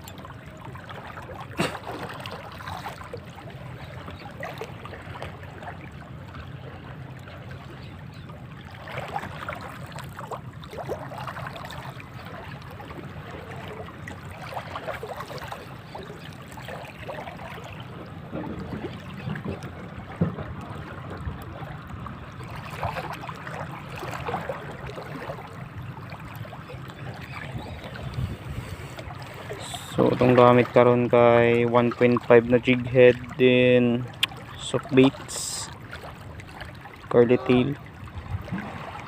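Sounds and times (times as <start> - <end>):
sea water lapping and splashing: 0.0 - 39.0.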